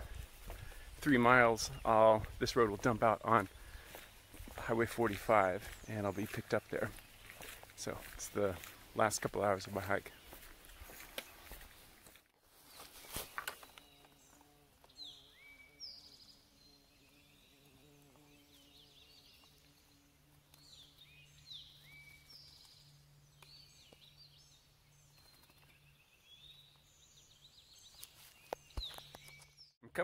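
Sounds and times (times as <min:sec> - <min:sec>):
birds calling: 0:00.0 - 0:29.7.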